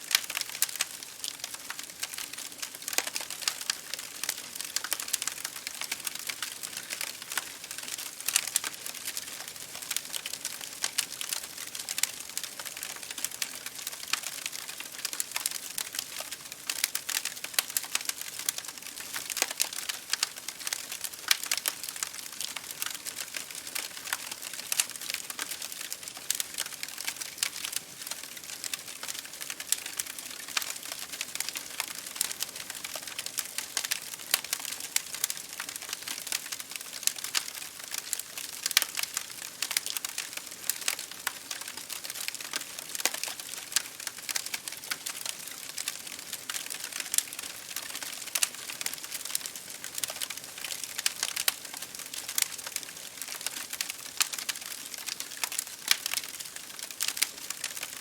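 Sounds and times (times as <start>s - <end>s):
rain hissing against a window: 0.0s - 58.0s
wood fire crackling: 0.0s - 58.0s.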